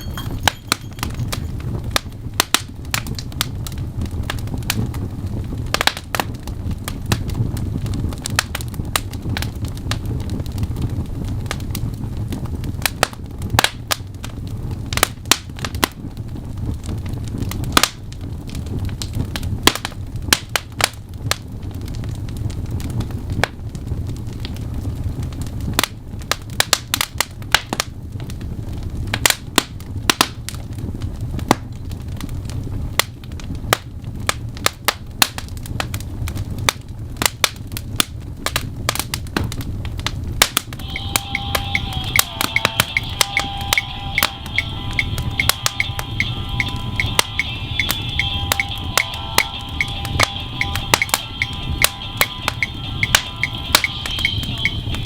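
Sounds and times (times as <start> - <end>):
low rumble of burning logs: 0.0 - 55.0
wood fire crackling: 0.0 - 55.0.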